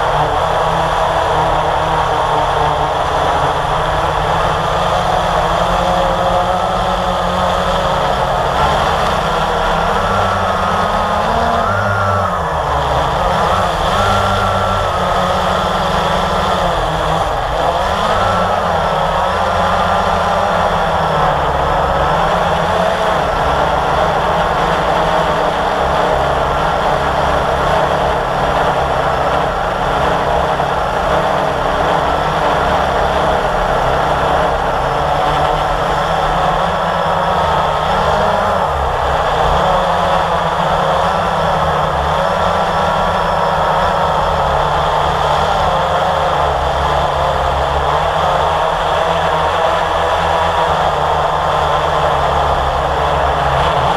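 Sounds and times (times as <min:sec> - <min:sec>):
quadcopter motors humming: 0:00.0 - 0:53.9.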